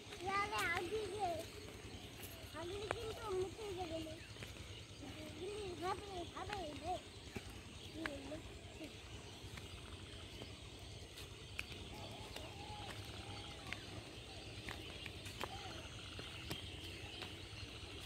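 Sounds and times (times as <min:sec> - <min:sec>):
insects and birds hissing: 0:00.0 - 0:18.0.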